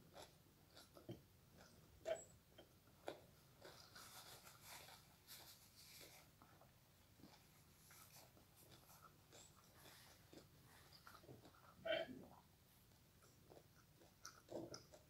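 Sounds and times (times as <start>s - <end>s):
rustling and chewing: 0.0s - 15.0s.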